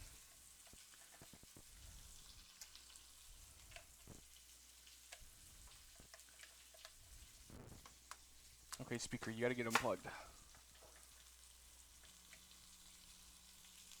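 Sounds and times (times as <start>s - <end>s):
chicken sizzling in a pan: 0.0s - 14.0s
small crackles: 0.0s - 14.0s.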